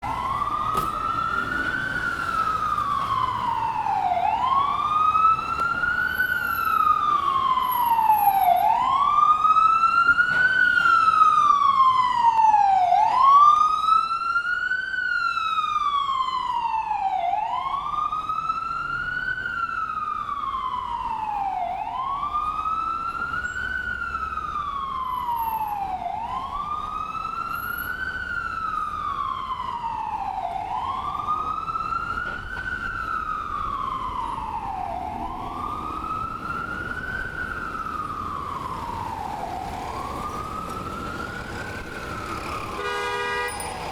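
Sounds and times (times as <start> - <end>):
ambulance siren wailing: 0.0 - 43.9.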